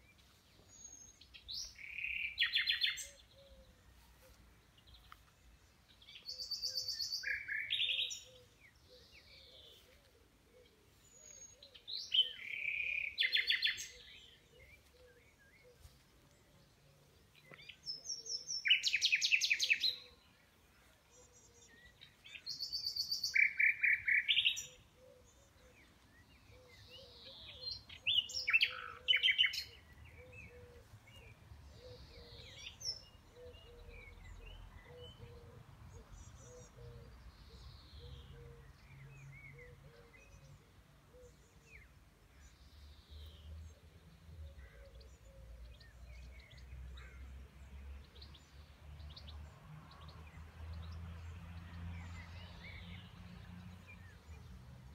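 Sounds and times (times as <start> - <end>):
faint birds calling: 0.0 - 48.5.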